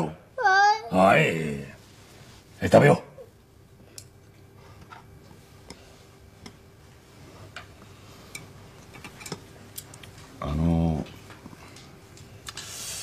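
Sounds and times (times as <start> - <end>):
faint room tone hum: 0.0 - 13.0.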